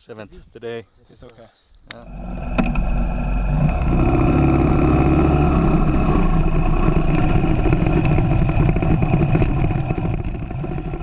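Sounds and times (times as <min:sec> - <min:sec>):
motorcycle engine running: 0:02.0 - 0:11.0.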